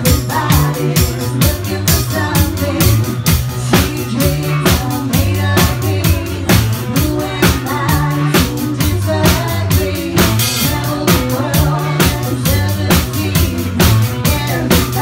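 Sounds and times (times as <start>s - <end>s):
bass line: 0.0s - 15.0s
drum kit beat: 0.0s - 15.0s
live band playing dance-pop: 0.0s - 15.0s.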